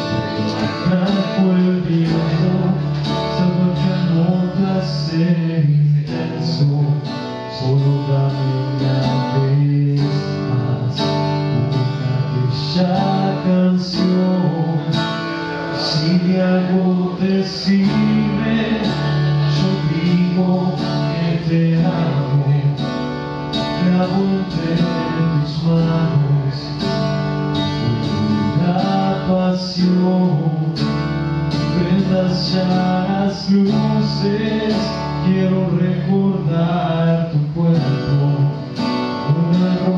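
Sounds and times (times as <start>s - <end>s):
man singing into microphone: 0.0s - 26.8s, 27.8s - 39.9s
acoustic guitar strumming: 0.0s - 39.9s.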